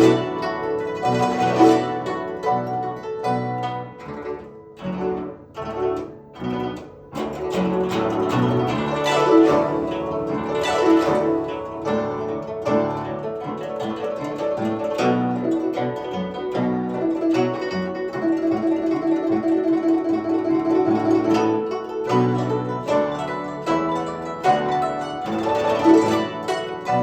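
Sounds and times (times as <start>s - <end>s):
plucked zither solo: 0.0s - 27.0s.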